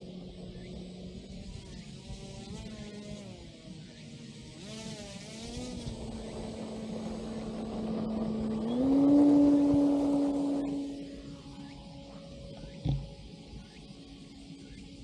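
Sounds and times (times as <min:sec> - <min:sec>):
rc airplane motor whining: 0:00.0 - 0:15.0.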